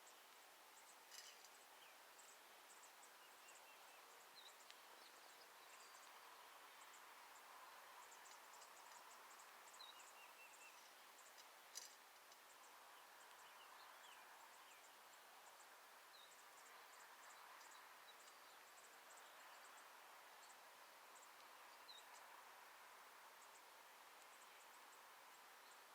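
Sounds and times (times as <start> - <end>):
faint outdoor ambience: 0.0 - 25.9
small birds chirping: 0.0 - 25.9.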